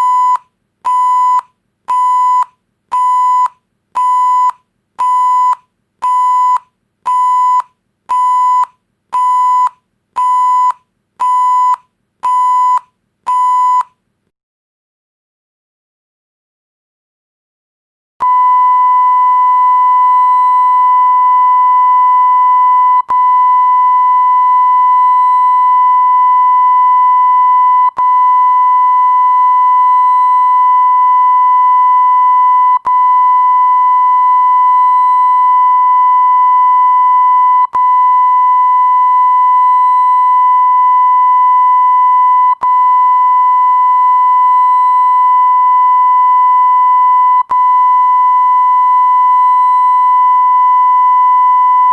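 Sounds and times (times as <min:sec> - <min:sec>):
censor bleep sine tone: 0:00.0 - 0:13.9, 0:18.2 - 0:51.9.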